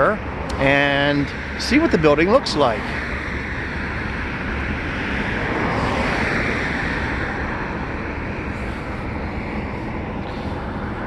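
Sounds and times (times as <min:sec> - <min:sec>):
low traffic rumble: 0:00.0 - 0:11.0
vehicle passing by: 0:00.0 - 0:11.0.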